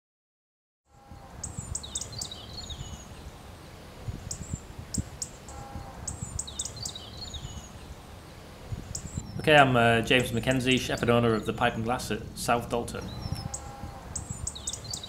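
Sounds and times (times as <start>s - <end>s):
songbirds chirping and trilling: 0.9s - 15.0s.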